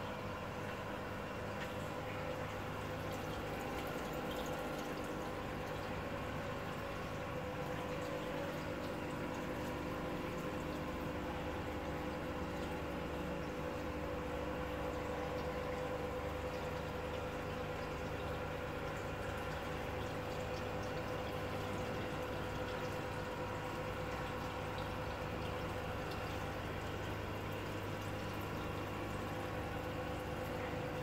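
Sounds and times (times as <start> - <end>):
aquarium air bubbling: 0.0 - 31.0
pump humming: 0.0 - 31.0.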